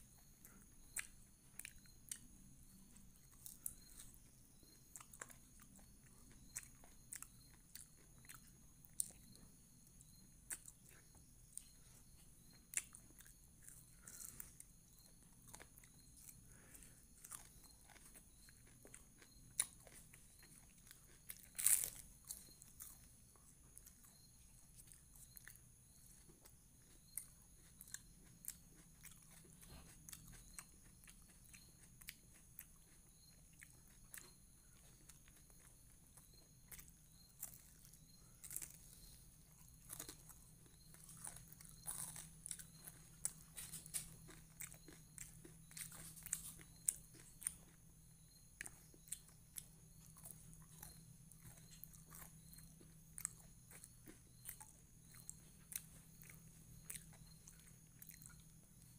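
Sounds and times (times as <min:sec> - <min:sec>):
faint steady hum: 0:00.0 - 0:58.9
wet chewing with mouth clicks: 0:00.1 - 0:58.9.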